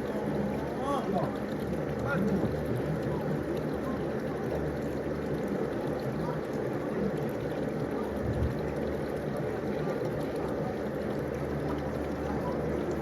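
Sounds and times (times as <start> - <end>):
swimming pool water splashing: 0.0 - 13.0.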